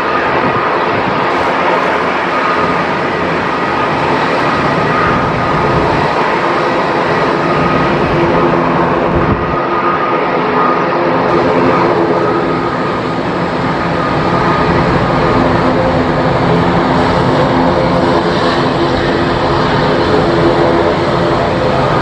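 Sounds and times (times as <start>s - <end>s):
aircraft engines whining: 0.0s - 22.0s.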